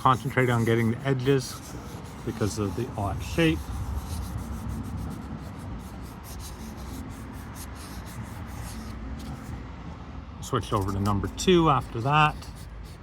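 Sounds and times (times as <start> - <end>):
applicator rubbing plastic lens: 0.0 - 9.6, 10.6 - 13.0.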